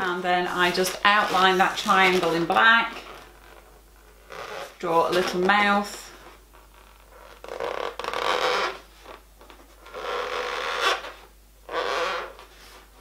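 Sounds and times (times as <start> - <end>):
marker squeaking on balloon: 0.5 - 5.7, 6.5 - 12.8.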